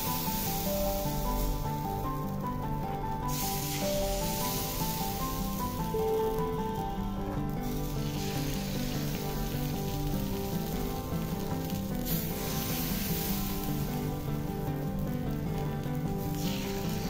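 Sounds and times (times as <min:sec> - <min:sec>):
background music: 0:00.0 - 0:17.0
batter sizzling in hot mould: 0:00.0 - 0:17.0.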